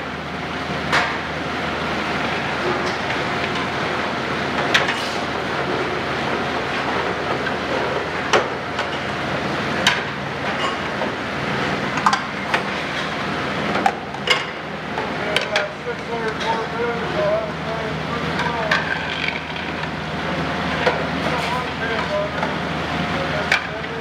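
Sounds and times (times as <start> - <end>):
conveyor machinery noise: 0.0 - 24.0.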